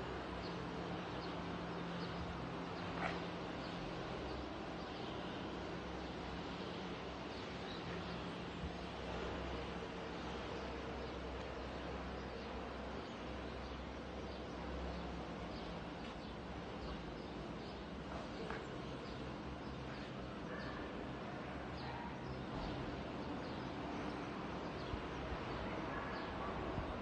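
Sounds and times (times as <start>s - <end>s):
outdoor background noise: 0.0s - 27.0s
small birds chirping: 0.3s - 27.0s.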